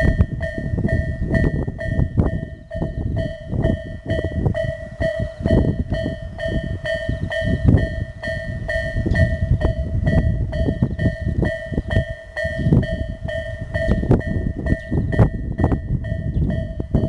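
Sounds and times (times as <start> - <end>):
heavy low rumble: 0.0 - 17.0
level crossing warning bell: 0.0 - 17.0.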